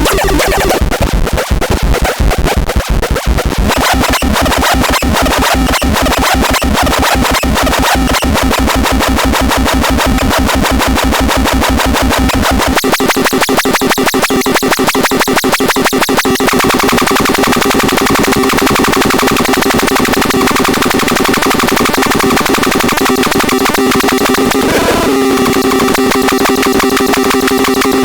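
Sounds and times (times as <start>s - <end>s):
harsh synthesizer drone: 0.0s - 13.6s, 14.2s - 28.0s.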